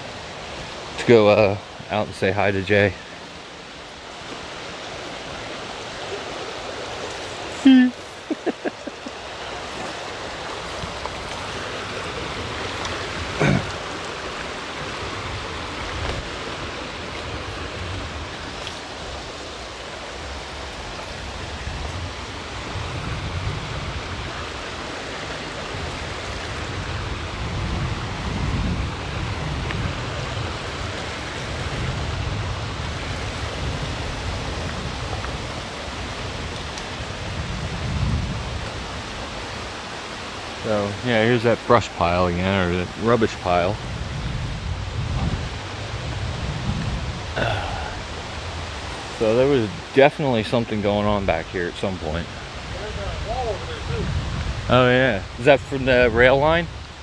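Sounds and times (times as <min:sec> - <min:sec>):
stream water rushing: 0:00.0 - 0:57.0
wind rumble on microphone: 0:00.0 - 0:57.0.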